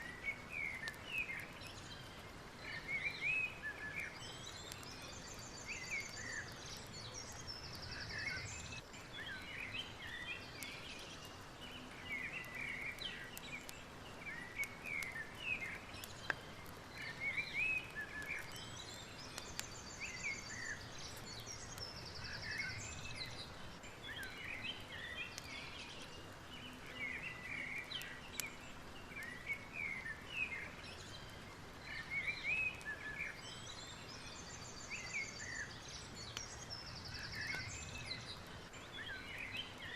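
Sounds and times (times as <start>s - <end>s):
birds chirping and whistling: 0.0s - 39.9s
soft steady hiss: 0.0s - 39.9s.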